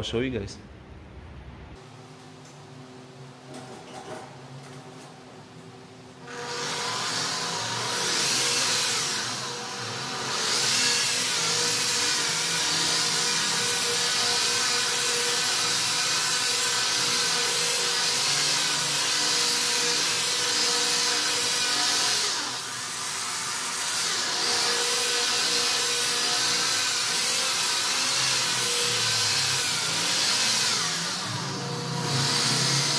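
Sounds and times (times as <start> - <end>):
electric polisher running: 6.2 - 32.9.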